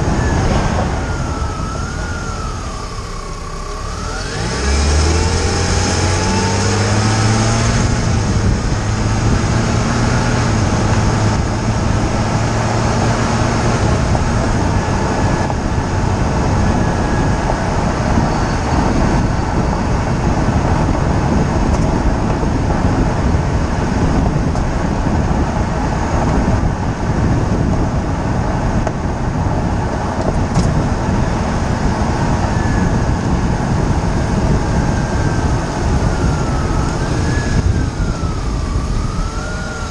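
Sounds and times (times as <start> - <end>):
car engine accelerating: 0.0 - 39.9
tyre and wind rumble: 0.0 - 39.9.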